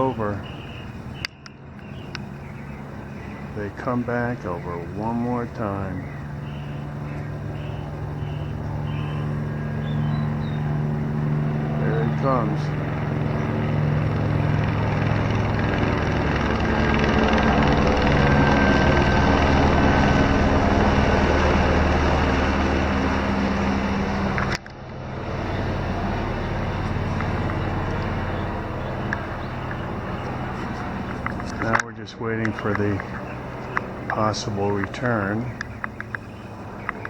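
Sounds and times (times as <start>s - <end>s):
helicopter flying overhead: 0.0s - 37.0s.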